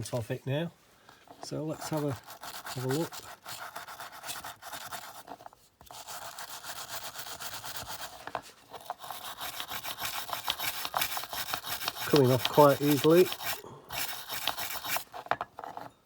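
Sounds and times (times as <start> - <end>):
brush scrubbing metal: 1.4 - 15.8.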